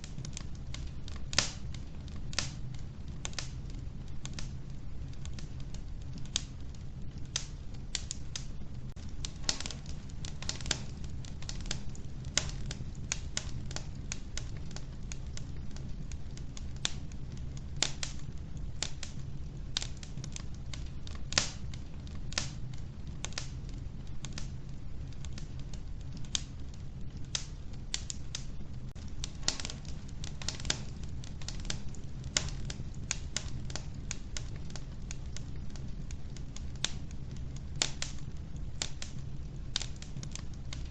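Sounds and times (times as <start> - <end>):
wood fire crackling in a stove: 0.0 - 40.9.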